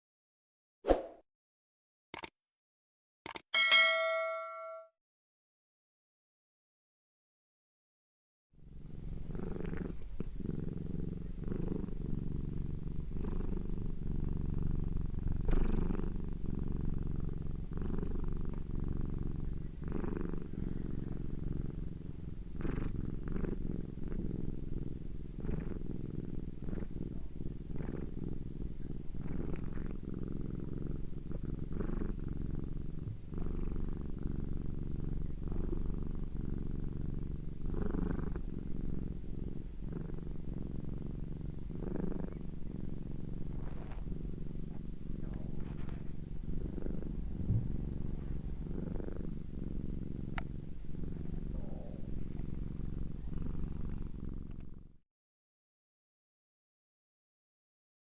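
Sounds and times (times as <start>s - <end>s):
cat purring: 8.6s - 55.0s.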